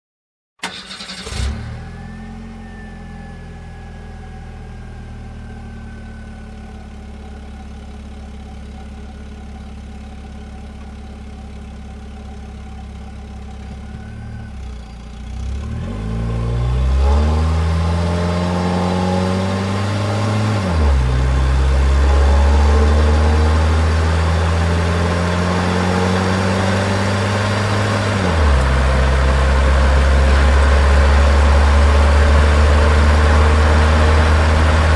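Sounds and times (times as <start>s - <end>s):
car engine idling and accelerating: 0.6s - 34.9s.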